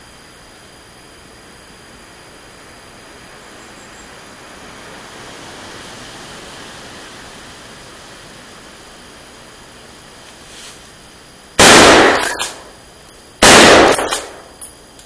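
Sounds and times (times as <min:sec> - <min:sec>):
wind blowing through forest: 0:00.0 - 0:15.0.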